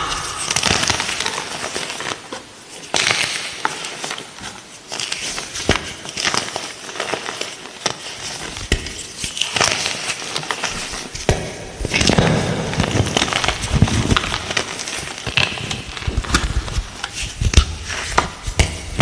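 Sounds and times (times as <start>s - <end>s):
chalk crunching and crackling: 0.0s - 19.0s.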